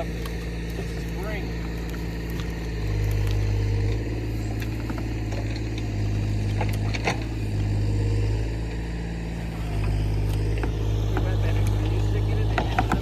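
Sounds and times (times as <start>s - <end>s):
excavator diesel engine: 0.0s - 13.0s.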